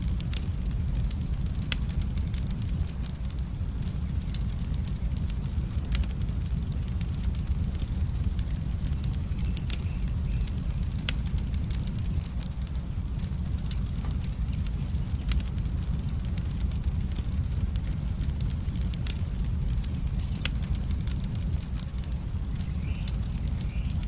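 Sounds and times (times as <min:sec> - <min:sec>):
log fire crackling: 0:00.0 - 0:24.0.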